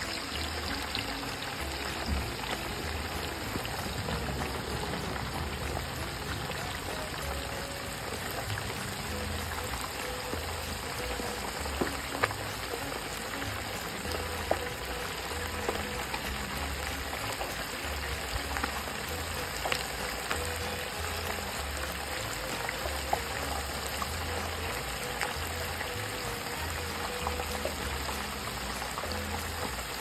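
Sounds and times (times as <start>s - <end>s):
oil bubbling and crackling: 0.0s - 30.0s.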